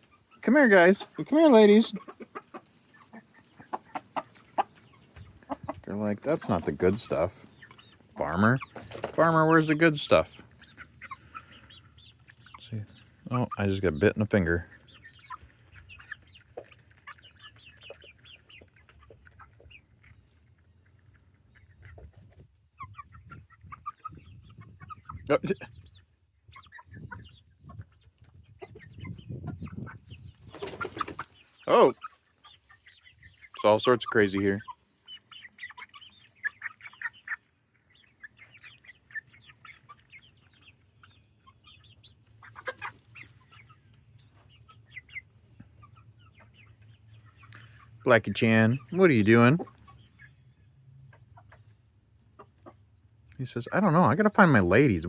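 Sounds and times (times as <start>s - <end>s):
chickens clucking and chirping: 0.0s - 55.0s.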